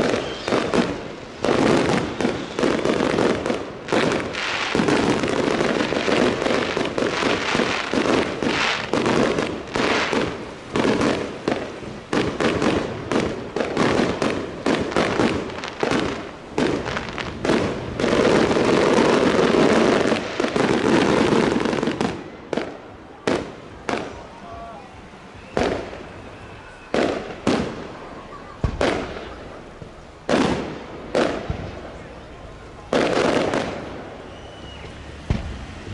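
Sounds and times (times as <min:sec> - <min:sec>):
fireworks exploding: 0:00.0 - 0:35.9.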